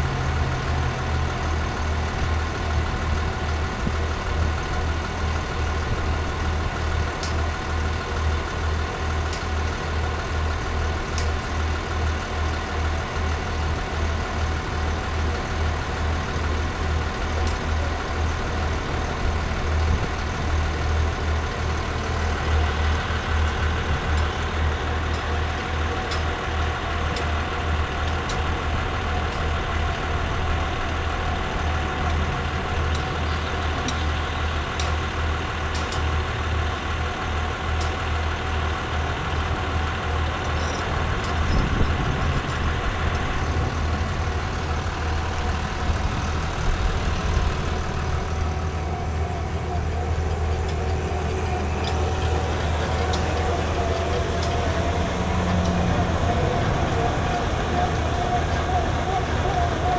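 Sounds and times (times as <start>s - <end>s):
drill rig engine running: 0.0s - 59.9s.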